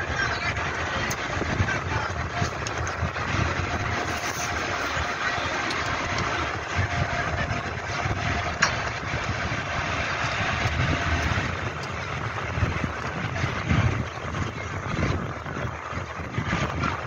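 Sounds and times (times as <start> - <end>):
large engine rumbling: 0.0 - 17.0.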